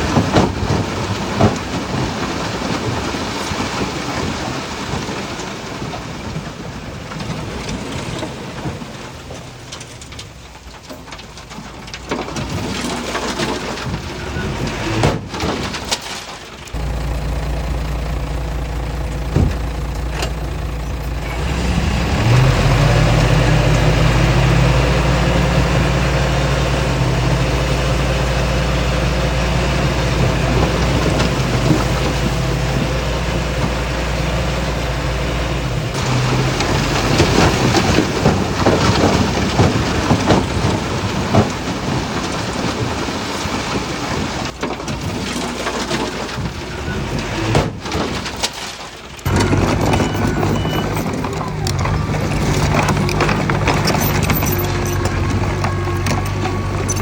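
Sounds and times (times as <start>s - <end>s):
clattering rumble with knocks: 0.0s - 57.0s
heavy diesel engine under load: 0.0s - 57.0s.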